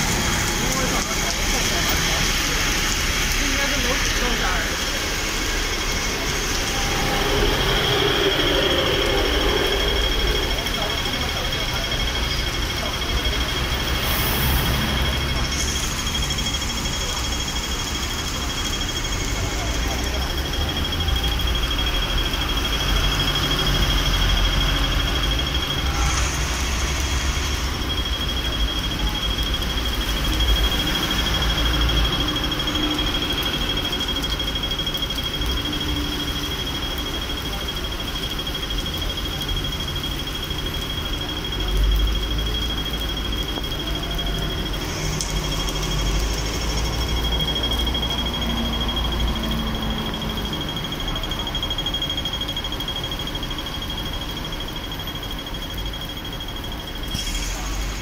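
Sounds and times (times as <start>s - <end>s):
crossing signal high tone: 0.0s - 58.0s
rain falling: 0.0s - 58.0s
rumble of passing cars: 0.0s - 58.0s
traffic hiss on wet road: 0.0s - 58.0s.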